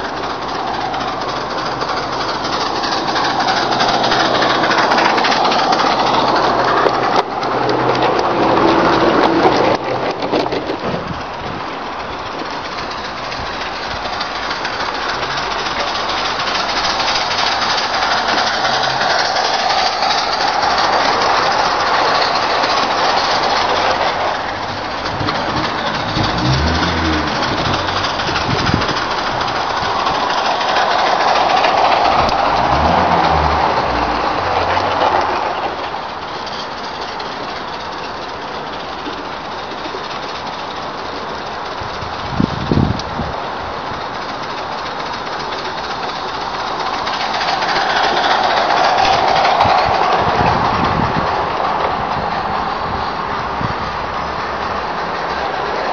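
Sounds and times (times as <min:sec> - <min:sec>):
small wheels clattering over rails: 0:00.0 - 0:55.9.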